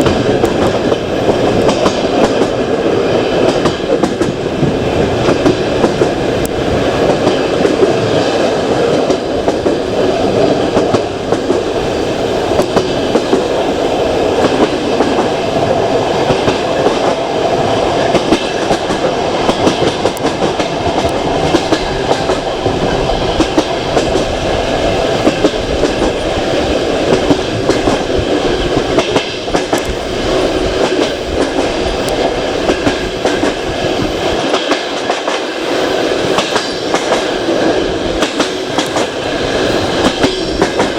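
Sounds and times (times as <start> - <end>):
wheels clicking over rail joints: 0.0 - 35.5
train wheels rumbling on rail: 0.0 - 40.9.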